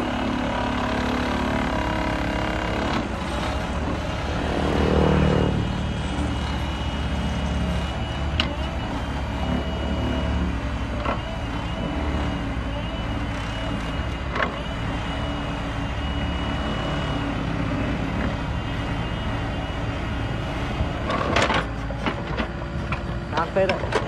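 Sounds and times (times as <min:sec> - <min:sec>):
plate compactor tamping soil: 0:00.0 - 0:19.6, 0:20.5 - 0:24.0
excavator diesel engine running: 0:00.0 - 0:24.0.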